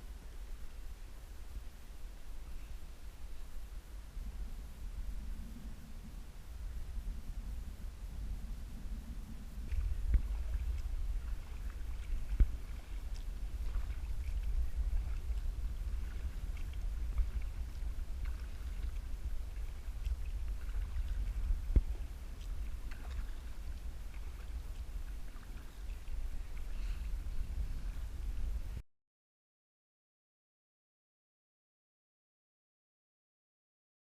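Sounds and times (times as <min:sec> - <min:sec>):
faint water sounds: 0:00.0 - 0:28.8
low rumble: 0:00.0 - 0:28.8.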